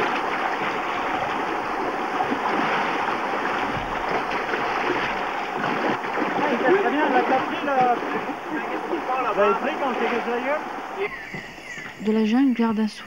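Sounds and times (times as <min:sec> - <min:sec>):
river water rushing over rocks: 0:00.0 - 0:11.6.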